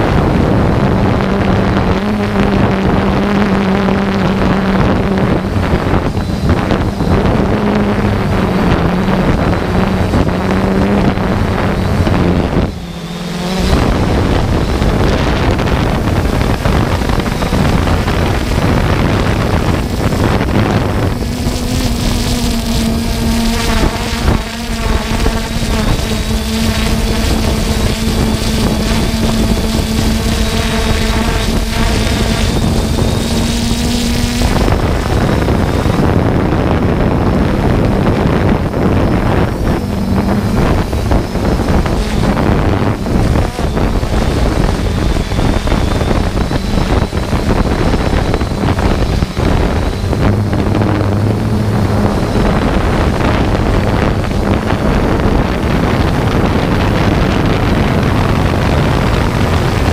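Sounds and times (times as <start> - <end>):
quadcopter propellers humming: 0.0 - 59.9
wind on microphone: 0.0 - 59.9.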